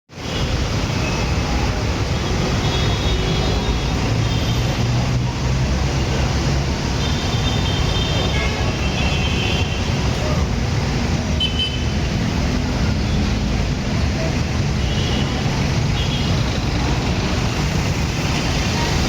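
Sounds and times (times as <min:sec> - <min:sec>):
road traffic rumble: 0:00.1 - 0:19.0.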